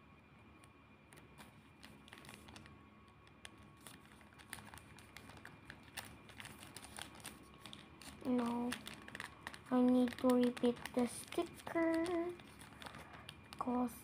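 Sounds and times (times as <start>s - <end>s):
paper and sticker crinkling: 1.2s - 14.0s.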